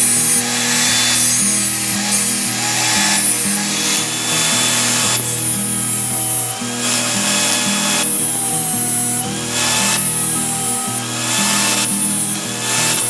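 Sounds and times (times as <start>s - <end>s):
angle grinder grinding steel: 0.0s - 13.0s
country music: 0.0s - 13.0s.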